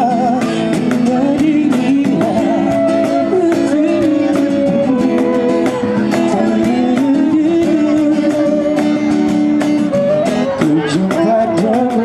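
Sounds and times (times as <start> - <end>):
acoustic guitar strumming: 0.0 - 12.0
held melody notes: 0.0 - 12.0.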